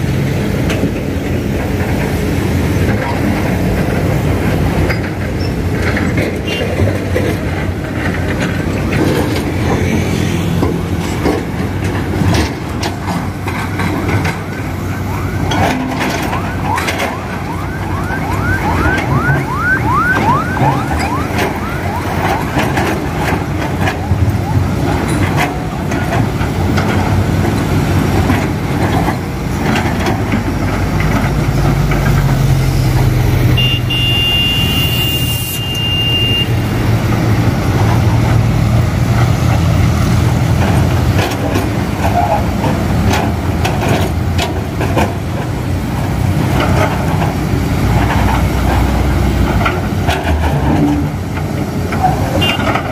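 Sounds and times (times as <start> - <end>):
knocks and clanks: 2.8 - 14.7, 15.4 - 33.6, 37.0 - 52.9.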